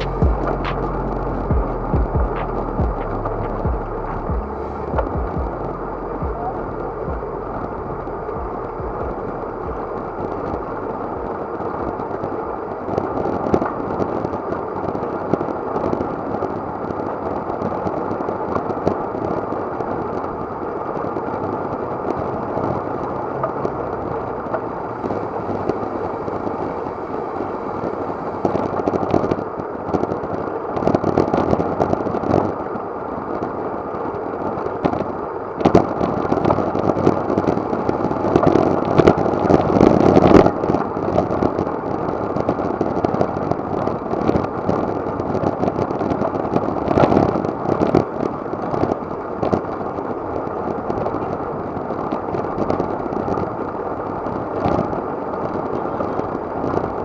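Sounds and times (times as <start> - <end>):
bicycle road noise: 0.0 - 57.0
rushing wind: 0.0 - 57.0.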